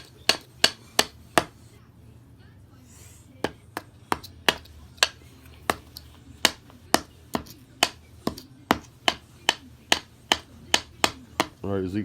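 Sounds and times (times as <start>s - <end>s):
hammer hitting nail into wood: 0.0s - 1.6s, 3.4s - 11.6s.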